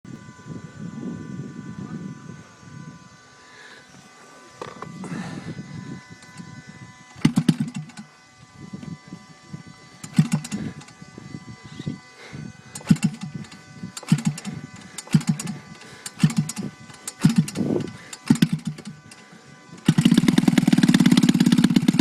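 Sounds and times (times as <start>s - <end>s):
model airplane engine cranking: 3.4s - 22.0s.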